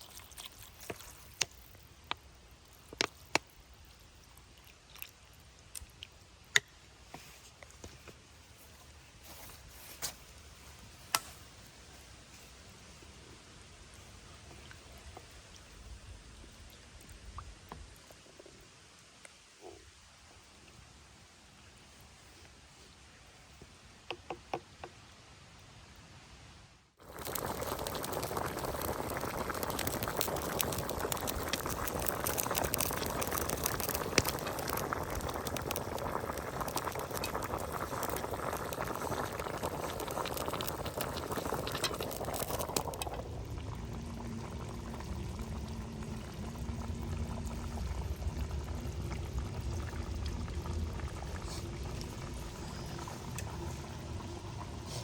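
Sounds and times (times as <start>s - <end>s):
crackling water noise: 0.0s - 55.0s.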